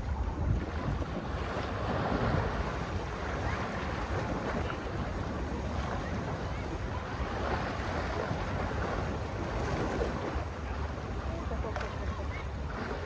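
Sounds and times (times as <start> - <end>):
sea waves washing ashore: 0.0 - 13.0
wind buffeting microphone: 0.0 - 13.0.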